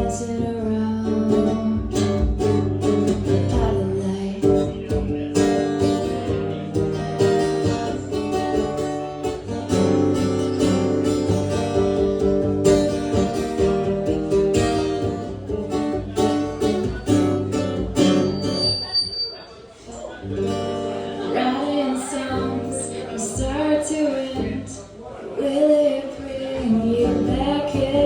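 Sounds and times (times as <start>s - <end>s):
acoustic guitar strumming chords: 0.0s - 18.9s, 20.2s - 24.8s.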